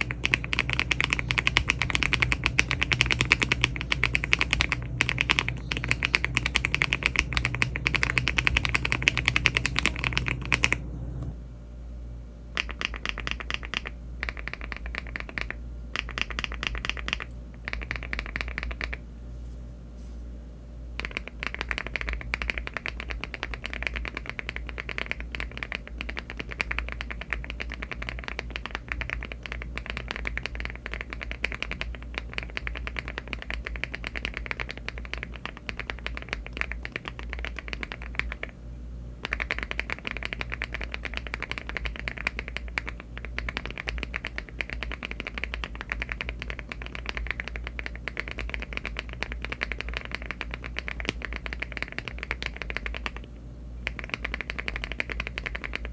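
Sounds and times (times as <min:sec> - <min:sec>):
mechanical keyboard typing: 0:00.0 - 0:10.8, 0:12.6 - 0:19.0, 0:21.0 - 0:38.6, 0:39.2 - 0:55.9.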